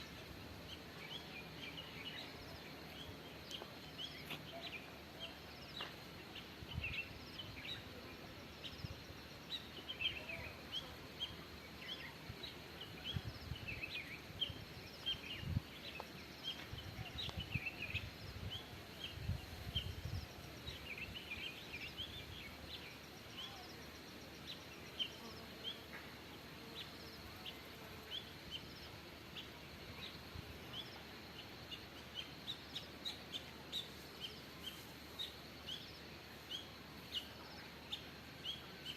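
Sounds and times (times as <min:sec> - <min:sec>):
faint background hiss: 0:00.0 - 0:38.9
small birds chirping: 0:00.0 - 0:38.9.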